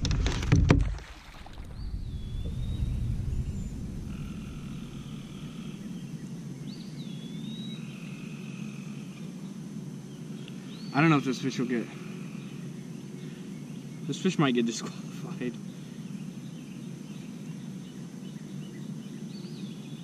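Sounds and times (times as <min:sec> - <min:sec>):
steady low background noise: 0:01.2 - 0:20.0.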